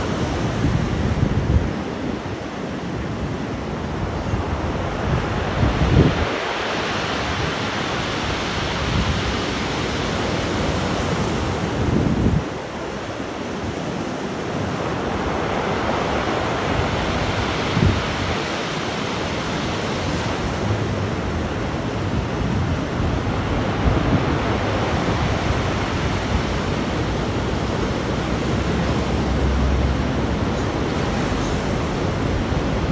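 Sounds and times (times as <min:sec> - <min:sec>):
waves breaking: 0:00.0 - 0:32.9
wind buffeting microphone: 0:00.0 - 0:32.9.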